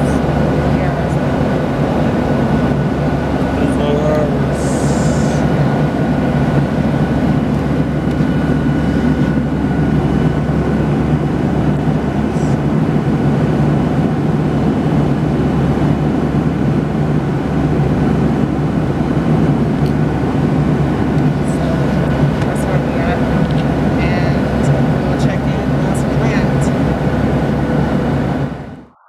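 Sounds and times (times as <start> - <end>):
faint high whine: 0.0 - 29.0
jet engine drone: 0.0 - 29.0.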